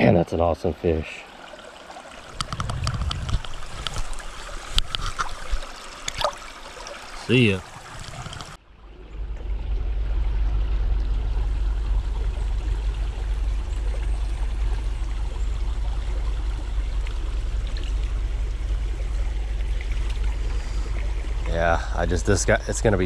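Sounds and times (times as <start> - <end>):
creek water running: 0.0 - 23.0.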